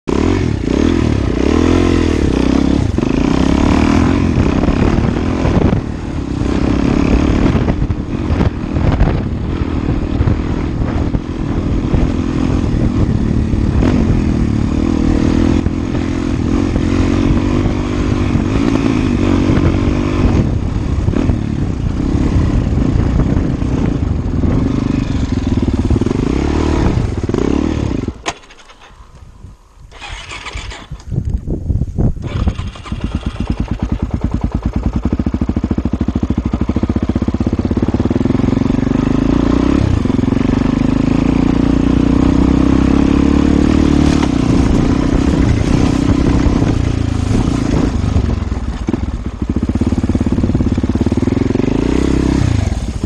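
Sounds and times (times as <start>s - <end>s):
dirt bike engine revving: 0.1s - 29.2s, 29.9s - 31.1s, 32.2s - 53.0s.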